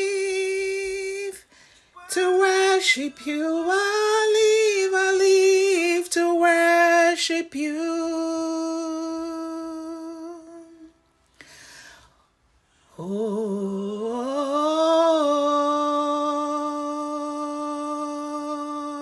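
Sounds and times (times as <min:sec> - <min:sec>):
woman singing: 0:00.0 - 0:11.0, 0:12.9 - 0:19.0.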